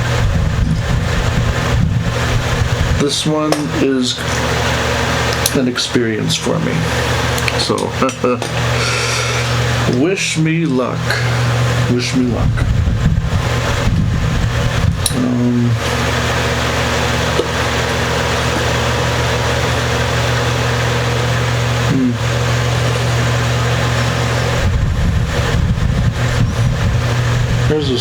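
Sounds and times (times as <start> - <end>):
machine hum with hiss: 0.0 - 28.0.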